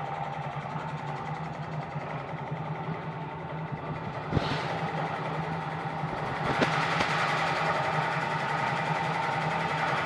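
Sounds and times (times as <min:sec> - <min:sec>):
electric pump humming: 0:00.0 - 0:10.0.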